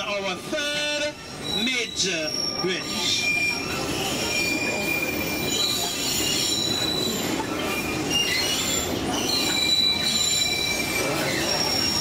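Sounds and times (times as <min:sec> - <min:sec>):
train cars rumbling: 0:00.0 - 0:12.0
train wheels squealing on rails: 0:00.7 - 0:12.0.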